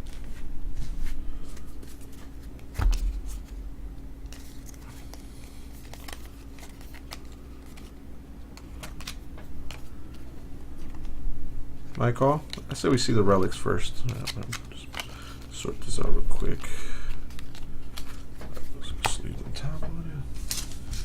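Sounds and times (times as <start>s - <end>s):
trading cards clicking and rustling: 1.8s - 11.1s, 11.9s - 19.8s.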